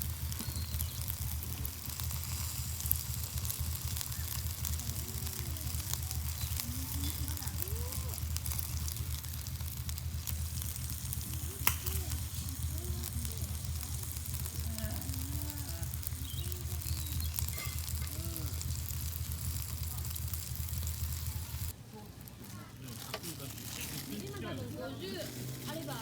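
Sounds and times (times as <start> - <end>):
low hum: 0.0 - 24.1
food sizzling: 0.0 - 26.0.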